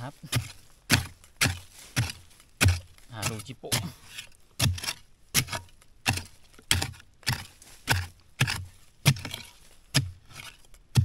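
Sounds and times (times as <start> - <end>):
digging tool chopping into soil: 0.0 - 11.0.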